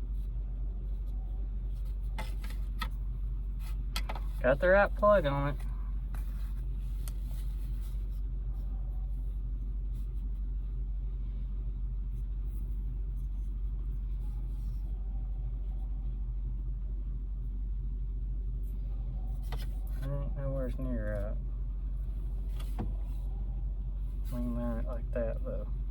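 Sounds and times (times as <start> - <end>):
faint even hum: 0.0 - 25.9
steady low rumble: 0.0 - 25.9.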